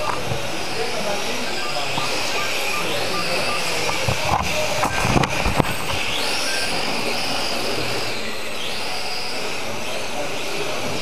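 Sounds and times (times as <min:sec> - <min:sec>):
toy car electric motors whining: 0:00.0 - 0:11.0.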